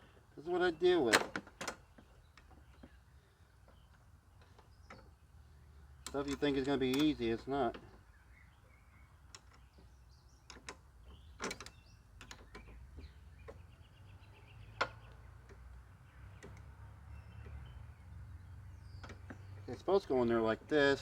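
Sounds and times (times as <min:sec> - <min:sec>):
light clicks and knocks: 0:00.7 - 0:05.2, 0:05.9 - 0:08.2, 0:09.2 - 0:17.7, 0:18.8 - 0:20.8.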